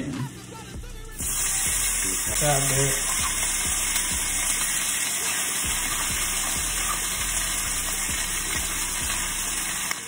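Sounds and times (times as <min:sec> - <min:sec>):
chicken sizzling in a skillet: 0:01.2 - 0:10.0.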